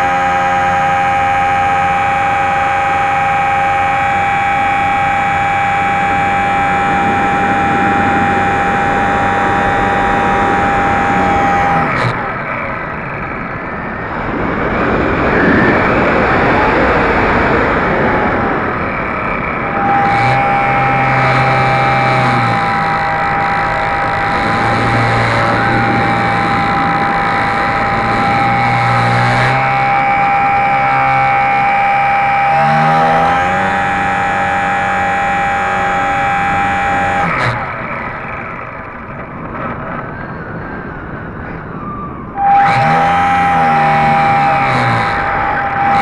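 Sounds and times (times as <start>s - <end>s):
electric motor and propeller whining: 0.0s - 46.0s.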